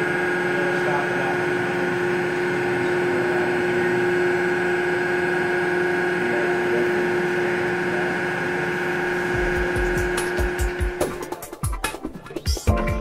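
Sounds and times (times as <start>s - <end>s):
machine hum with whine: 0.0s - 11.6s.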